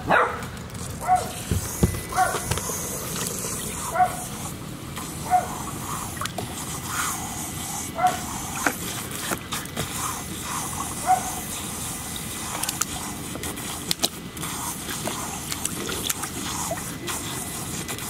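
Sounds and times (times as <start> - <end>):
hose water hissing: 0.7 - 18.0
puppy splashing through water: 1.0 - 18.0.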